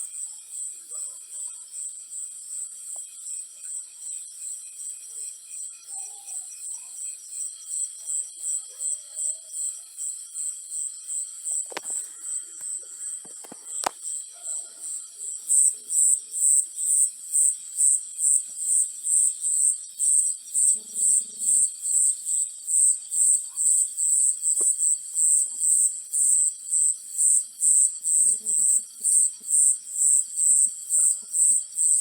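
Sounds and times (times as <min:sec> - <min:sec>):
insect chirping: 0:00.0 - 0:32.0.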